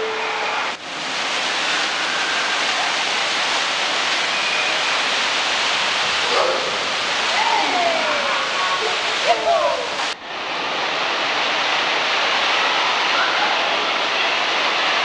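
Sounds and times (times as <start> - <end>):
water rushing down slide: 0.0 - 15.0.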